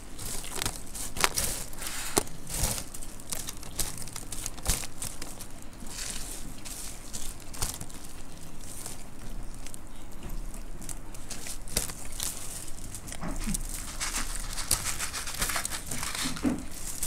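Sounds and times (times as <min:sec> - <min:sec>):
puffed rice crunching: 0:00.0 - 0:17.0.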